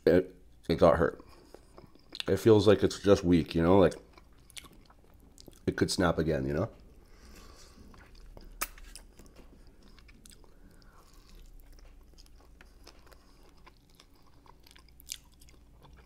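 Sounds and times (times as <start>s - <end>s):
wet chewing mouth sounds: 0.6s - 2.4s, 3.8s - 5.7s, 6.8s - 16.0s.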